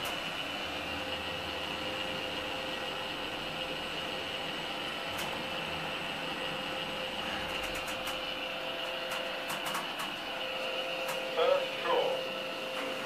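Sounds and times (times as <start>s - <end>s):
elevator mechanical hum: 0.0s - 13.0s.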